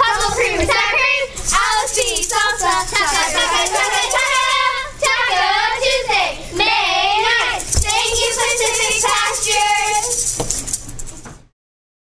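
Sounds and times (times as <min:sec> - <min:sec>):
girls singing a jingle: 0:00.0 - 0:10.4
maracas shaking: 0:00.0 - 0:11.3.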